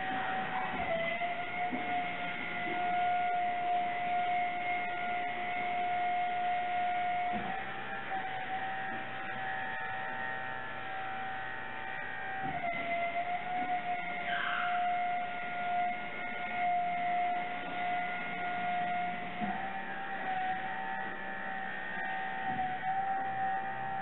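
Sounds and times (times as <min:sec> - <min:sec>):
electric pump motor whine: 0:00.0 - 0:24.0.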